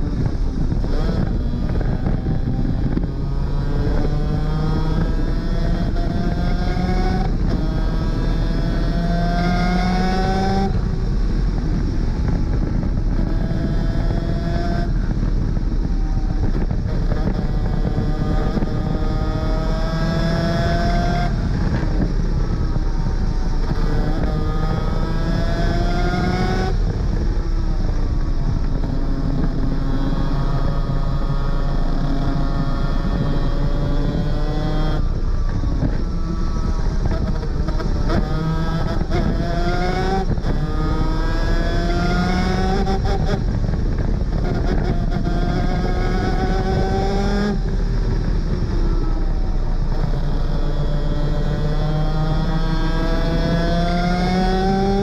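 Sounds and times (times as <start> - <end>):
two-stroke kart engine racing: 0.0 - 55.0.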